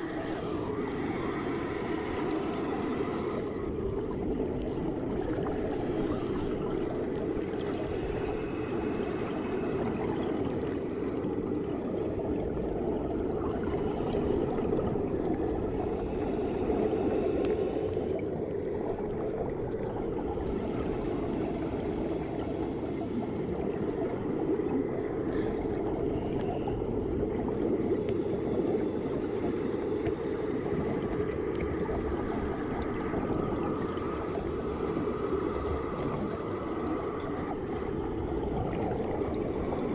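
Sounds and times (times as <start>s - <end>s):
underwater pool rushing: 0.0s - 39.9s.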